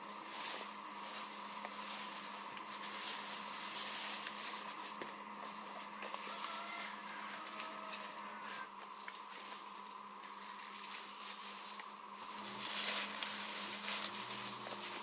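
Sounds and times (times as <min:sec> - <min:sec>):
high-pitched insect chorus: 0:00.0 - 0:15.0
low steady buzz: 0:00.0 - 0:15.0.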